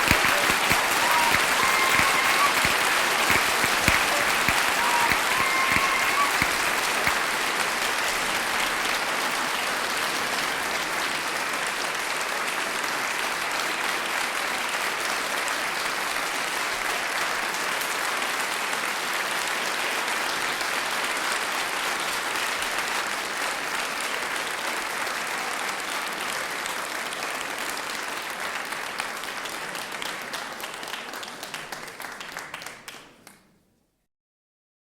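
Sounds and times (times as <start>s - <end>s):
large audience applauding: 0.0s - 33.4s.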